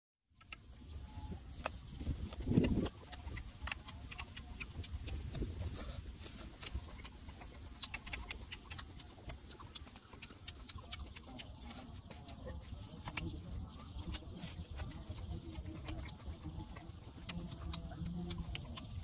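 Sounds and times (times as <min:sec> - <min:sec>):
man chewing and lip smacking: 0:00.4 - 0:19.0.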